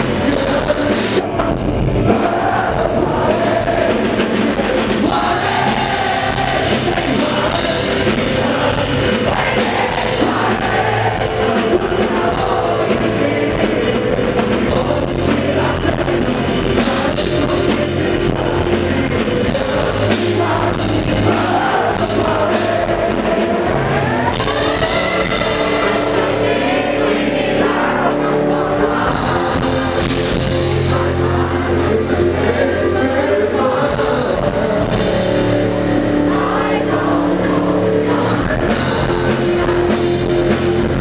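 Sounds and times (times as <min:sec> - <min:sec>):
man singing into a microphone: 0:00.0 - 0:41.0
rock band playing live: 0:00.0 - 0:41.0.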